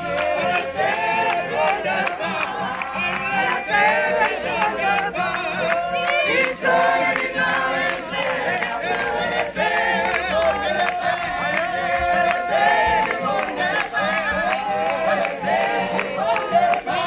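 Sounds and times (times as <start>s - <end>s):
group of people singing: 0.0s - 17.0s
hand-clapping: 0.0s - 17.0s.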